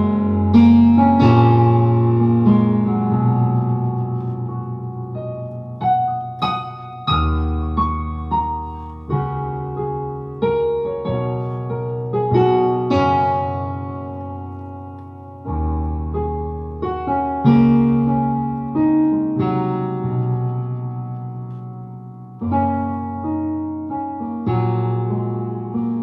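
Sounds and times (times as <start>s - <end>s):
digital piano playing slowly: 0.0s - 26.0s.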